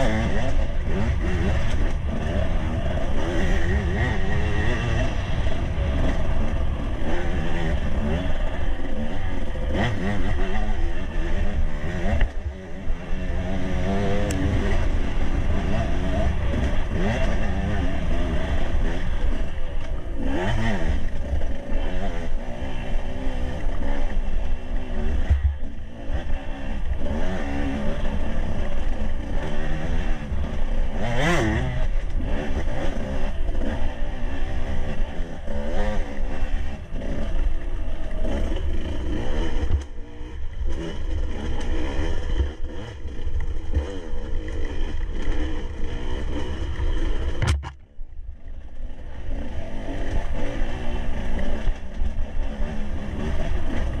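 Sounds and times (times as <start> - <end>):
dirt bike engine revving: 0.0 - 47.8, 48.7 - 54.0.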